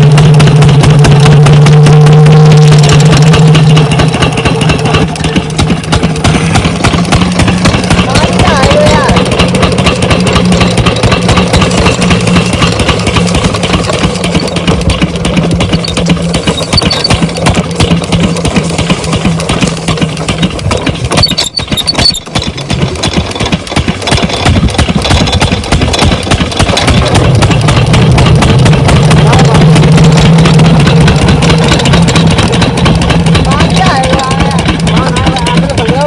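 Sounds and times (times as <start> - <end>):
diesel water pump engine running: 0.0 - 36.0.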